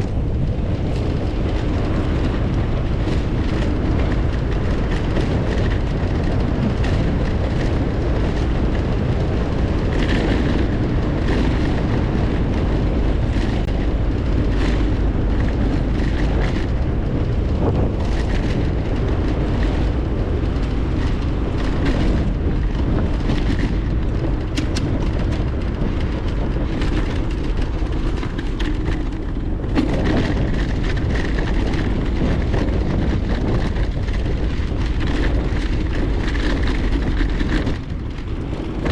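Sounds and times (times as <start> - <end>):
bicycle tyre noise: 0.0 - 38.9
bike clicks and rattles: 0.0 - 38.9
wind buffeting microphone: 0.0 - 38.9.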